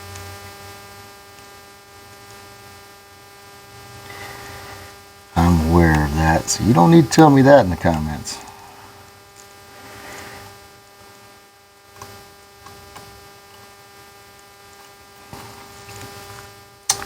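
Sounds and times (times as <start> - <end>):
electrical hum with whine: 0.0 - 17.0.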